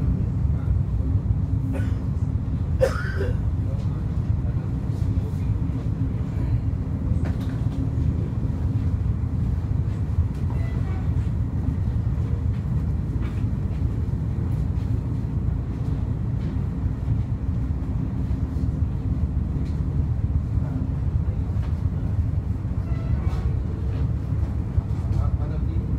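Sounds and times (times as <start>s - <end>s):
train rumble: 0.0s - 25.9s.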